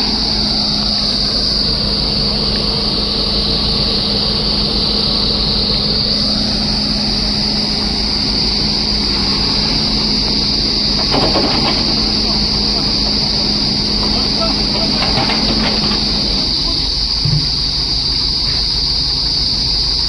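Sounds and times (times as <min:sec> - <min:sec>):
heavy machinery diesel engines: 0:00.0 - 0:20.0.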